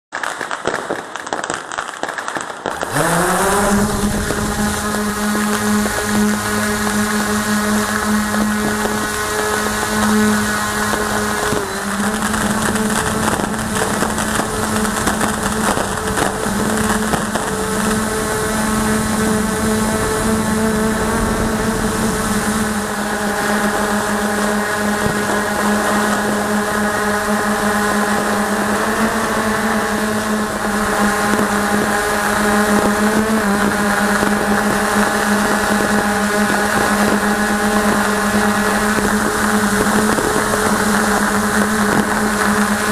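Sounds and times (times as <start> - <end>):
drone motors buzzing hum: 2.7 - 42.9.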